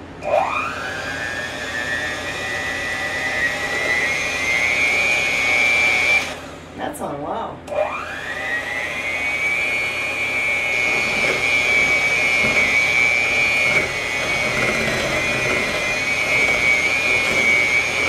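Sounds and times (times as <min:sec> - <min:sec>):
electric mixer whine: 0:00.0 - 0:06.8, 0:07.7 - 0:18.0.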